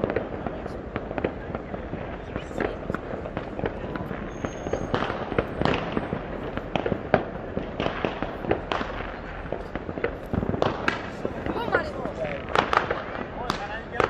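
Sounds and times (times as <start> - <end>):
fireworks bangs and pops: 0.0 - 14.0
rumble of distant fireworks: 0.0 - 14.0.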